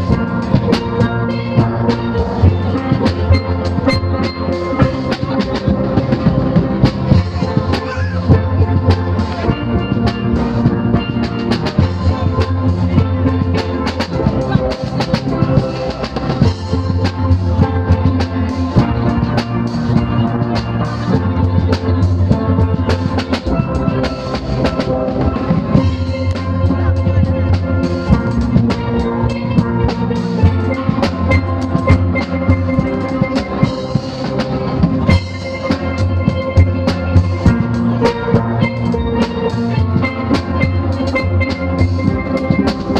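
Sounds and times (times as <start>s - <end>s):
steel pan band playing: 0.0s - 42.9s.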